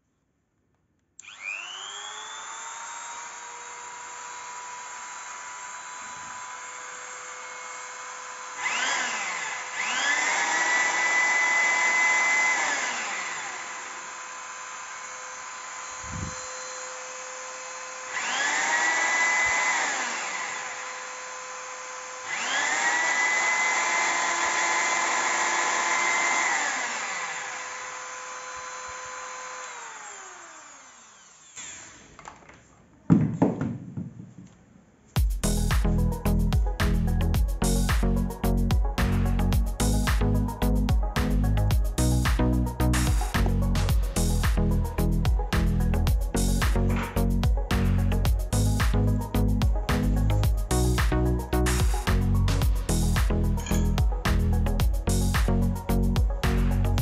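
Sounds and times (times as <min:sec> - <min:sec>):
electric drill spinning up: 0:01.2 - 0:32.4, 0:35.4 - 0:57.0
rotary tool whining: 0:01.2 - 0:32.7, 0:35.4 - 0:57.0.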